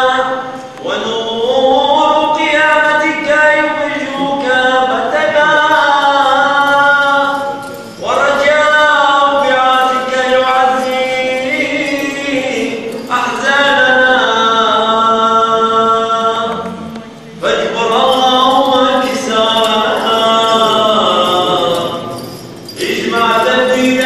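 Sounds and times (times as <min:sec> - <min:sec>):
unaccompanied liturgical chant: 0:00.0 - 0:24.0.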